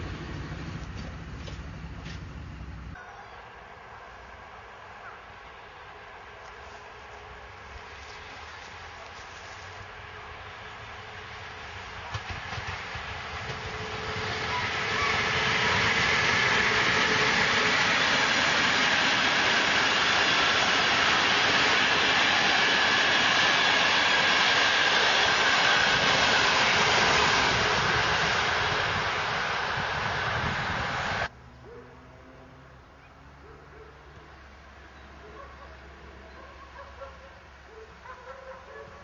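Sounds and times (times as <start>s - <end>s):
passenger train passing: 0.0s - 33.4s.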